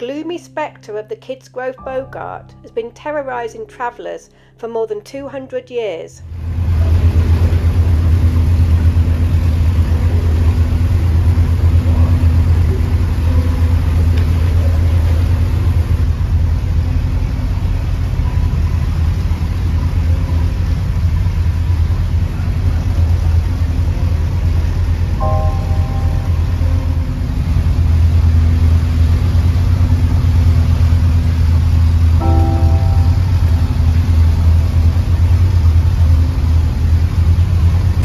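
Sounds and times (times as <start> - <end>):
diesel boat engine throbbing: 5.4 - 38.0.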